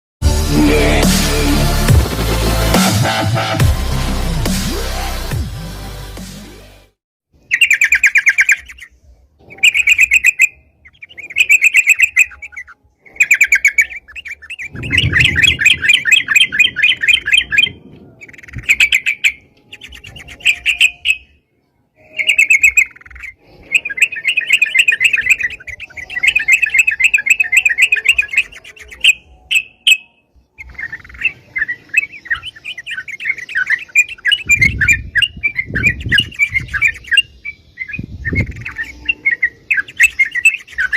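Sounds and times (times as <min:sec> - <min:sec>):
bulbul singing chattering phrases: 0:07.4 - 0:21.4, 0:22.0 - 0:40.9.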